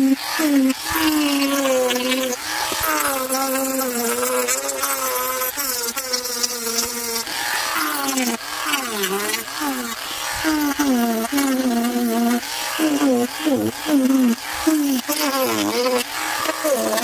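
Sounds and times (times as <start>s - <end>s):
rotary tool sanding: 0.0s - 17.0s.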